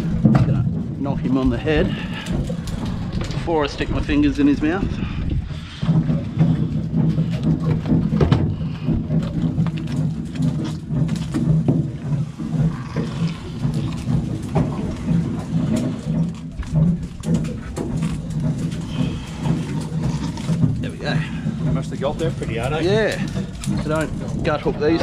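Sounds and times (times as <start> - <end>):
boat engine humming: 0.0 - 25.0
knocks and clicks: 0.0 - 25.0.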